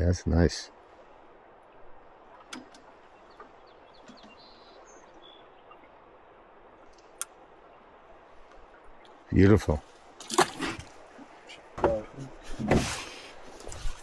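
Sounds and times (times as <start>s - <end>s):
flowing river water: 0.6s - 13.7s.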